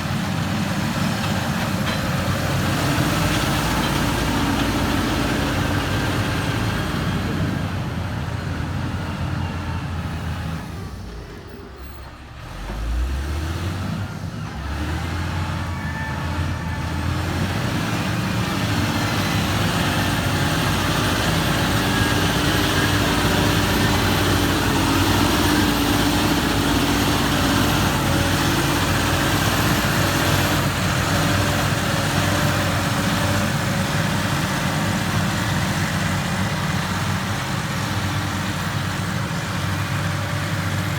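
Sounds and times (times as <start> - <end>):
diesel construction machinery engine: 0.0 - 40.9.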